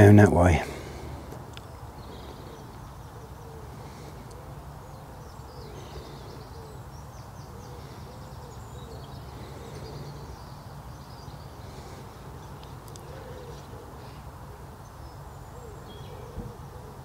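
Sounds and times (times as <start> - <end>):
small birds twittering: 0.0 - 17.0
low soft bird call: 0.6 - 17.0.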